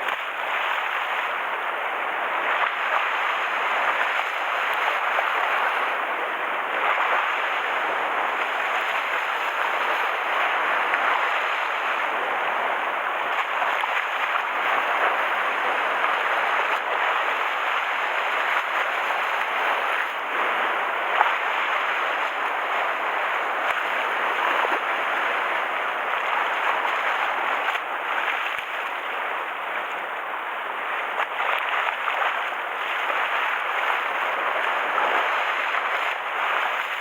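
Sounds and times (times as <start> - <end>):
rough sea waves rushing: 0.0 - 37.0.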